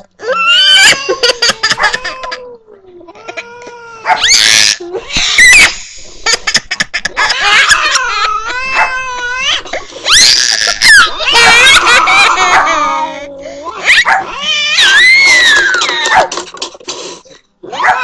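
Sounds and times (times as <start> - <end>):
cats yowling: 0.2 - 5.8, 7.2 - 16.3, 17.6 - 18.0.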